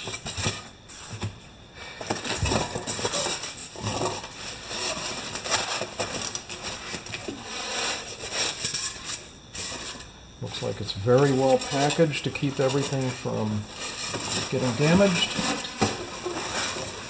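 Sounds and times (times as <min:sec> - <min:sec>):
packing foam and bubble wrap rustling: 0:02.0 - 0:17.0.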